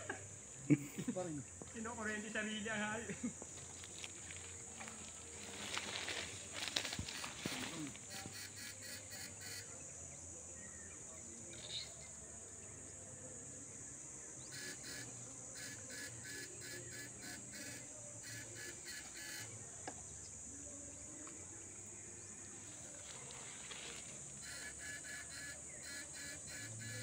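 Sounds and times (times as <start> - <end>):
rapid pulsed insect calls: 0.0 - 27.0
high-pitched insect drone: 1.8 - 10.7, 11.4 - 27.0.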